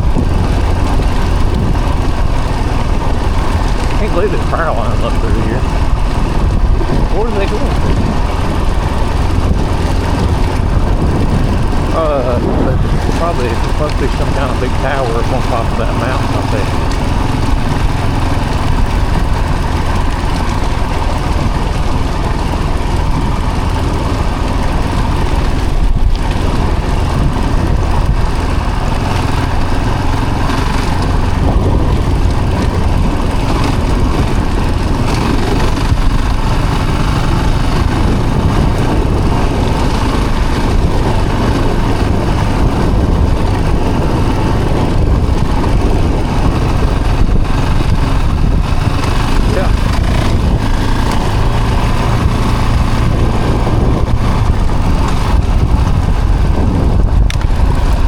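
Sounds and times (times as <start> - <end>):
road and wind noise: 0.0 - 58.0
vehicle engine running: 0.0 - 58.0.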